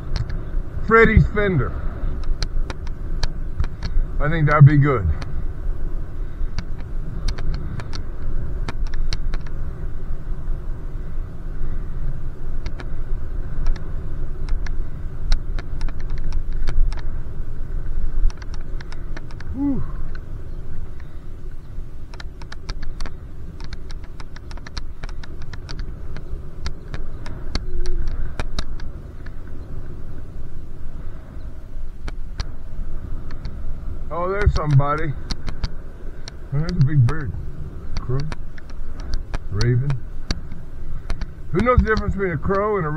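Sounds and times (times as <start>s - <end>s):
sharp clicks and rattles: 0.0s - 5.4s, 6.5s - 9.6s, 12.6s - 29.8s, 33.2s - 42.9s
bicycle road rumble: 0.0s - 42.9s
wind: 0.0s - 42.9s.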